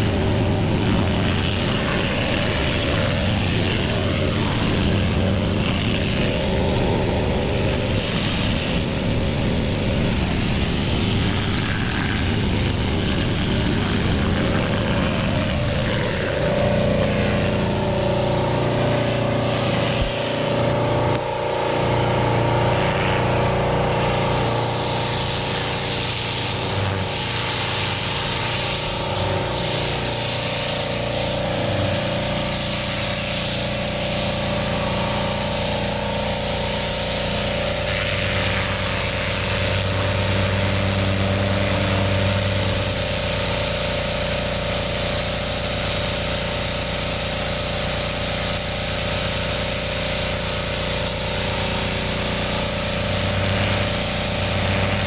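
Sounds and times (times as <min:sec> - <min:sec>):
high-pressure spray hissing: 0:00.0 - 0:55.0
pressure washer motor drone: 0:00.0 - 0:55.0.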